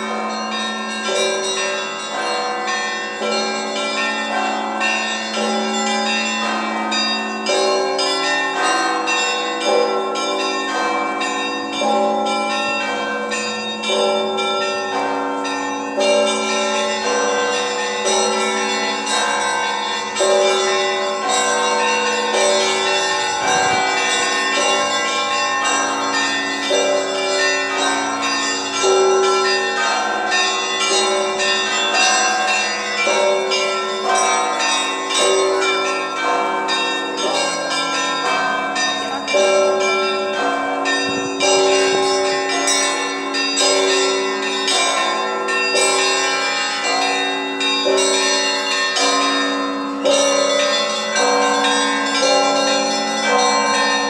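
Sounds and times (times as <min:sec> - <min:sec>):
high church bells ringing rapidly: 0:00.0 - 0:54.0
low bells ringing long tones: 0:00.0 - 0:54.0.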